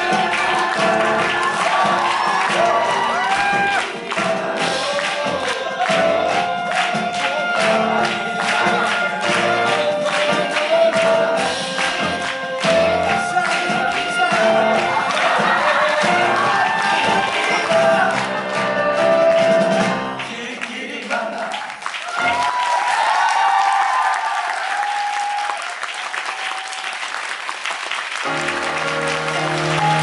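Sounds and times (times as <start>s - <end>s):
upbeat musical song with voices: 0.0s - 23.6s, 28.2s - 30.0s.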